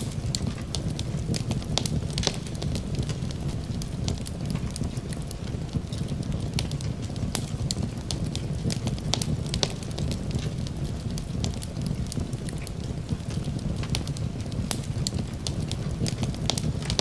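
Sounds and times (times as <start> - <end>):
fireplace crackling and popping: 0.0 - 17.0.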